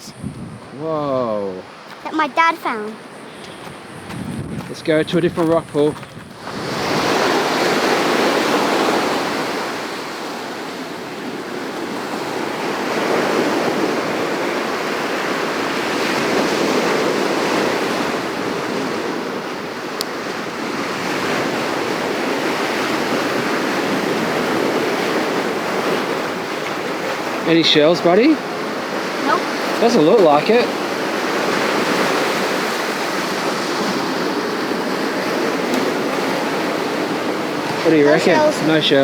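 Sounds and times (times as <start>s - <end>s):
ocean surf washing onto shore: 0.0s - 39.0s.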